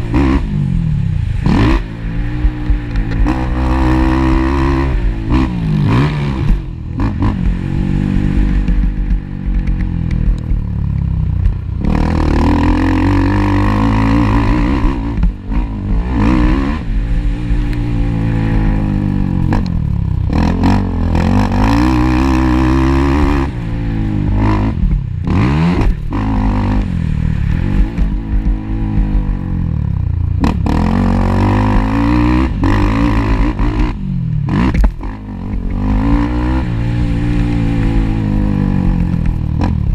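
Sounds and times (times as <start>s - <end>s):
quad engine revving: 0.0s - 9.4s, 11.8s - 39.9s.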